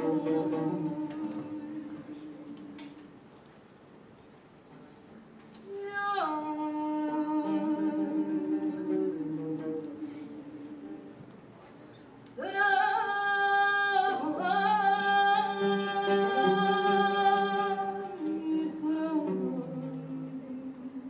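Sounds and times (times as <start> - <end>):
woman singing unaccompanied: 0.0 - 3.2, 5.6 - 11.2, 12.2 - 21.0.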